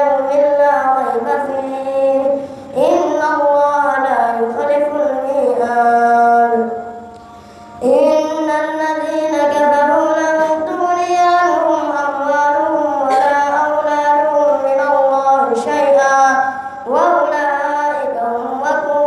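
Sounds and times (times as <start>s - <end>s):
boy chanting melodically: 0.0s - 19.0s.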